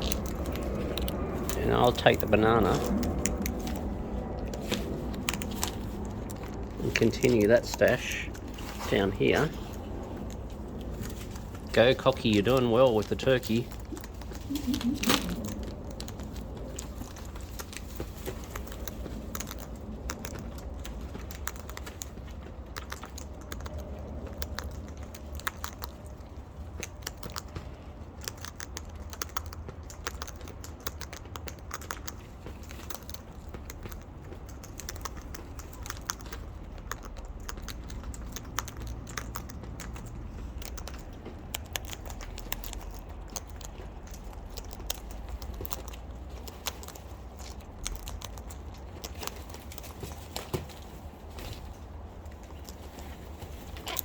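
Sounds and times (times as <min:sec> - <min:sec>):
beaks pecking and cracking nuts: 0:00.0 - 0:54.0
steady low rumble: 0:00.0 - 0:54.0.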